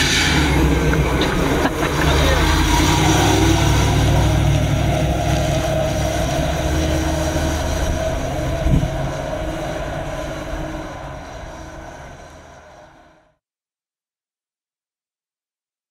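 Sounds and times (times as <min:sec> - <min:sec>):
van engine driving away: 0:00.0 - 0:13.3.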